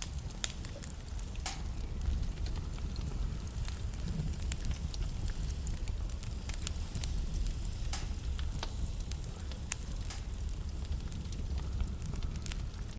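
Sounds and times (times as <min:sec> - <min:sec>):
fire rumbling and hissing: 0:00.0 - 0:12.9
logs crackling and popping: 0:00.0 - 0:12.9.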